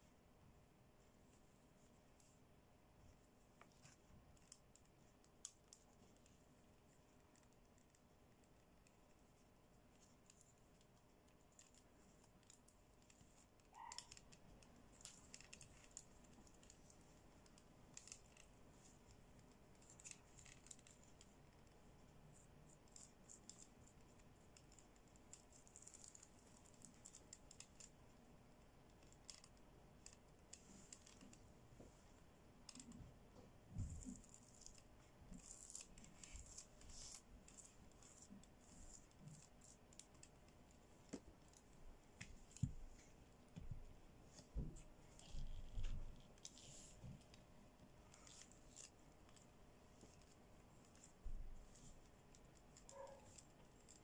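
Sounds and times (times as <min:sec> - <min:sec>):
sequins clicking and rustling: 0:03.1 - 0:31.5, 0:32.6 - 0:54.0.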